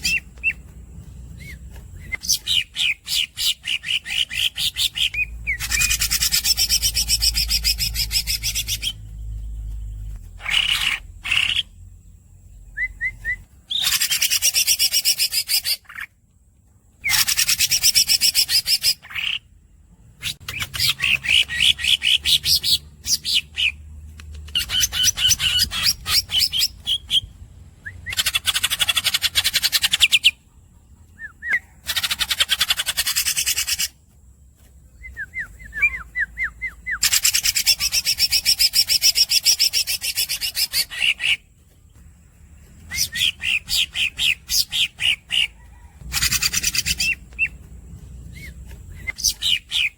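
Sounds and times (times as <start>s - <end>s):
squeaky bird chirps: 0.0s - 0.7s, 1.3s - 11.8s, 12.8s - 16.1s, 20.2s - 34.0s, 35.0s - 41.5s, 42.8s - 49.9s
bird singing rolling trills: 0.0s - 49.9s.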